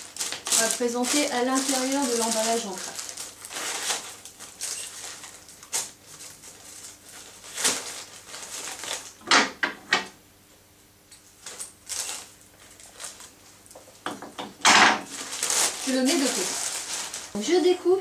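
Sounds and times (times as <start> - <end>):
tissue paper rustling: 0.0 - 9.2, 11.4 - 14.0, 15.0 - 17.8.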